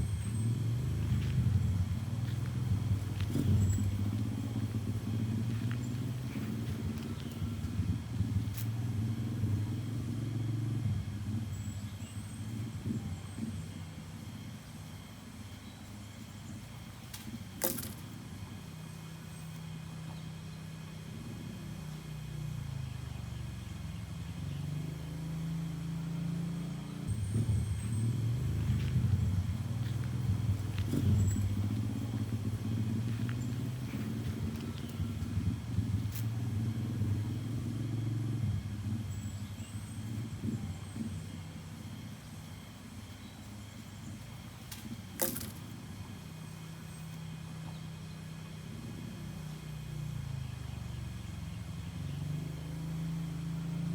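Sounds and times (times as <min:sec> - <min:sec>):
motor engine running: 0:00.0 - 0:53.9.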